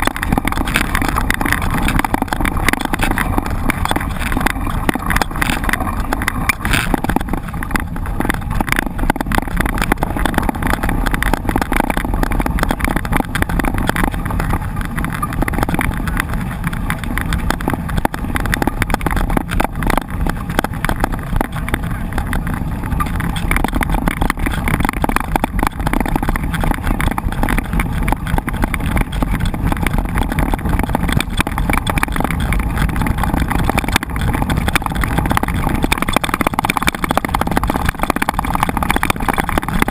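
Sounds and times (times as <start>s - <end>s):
bike rattling on rough trail: 0.0s - 39.9s
wind on microphone: 0.0s - 39.9s.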